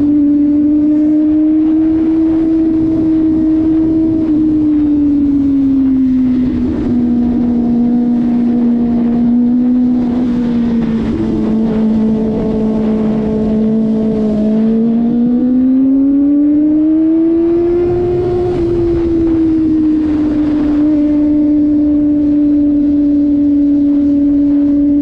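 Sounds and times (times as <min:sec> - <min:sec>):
low wind rumble: 0:00.0 - 0:25.0
motorcycle engine running: 0:00.0 - 0:25.0.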